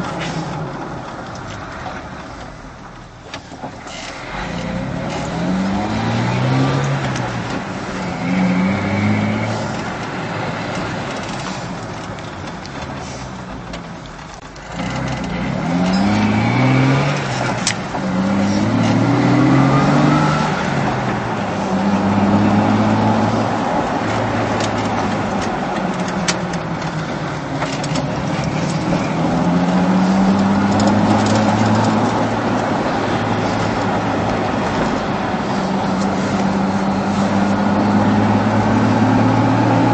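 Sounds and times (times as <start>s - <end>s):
car engine accelerating: 3.7s - 39.9s.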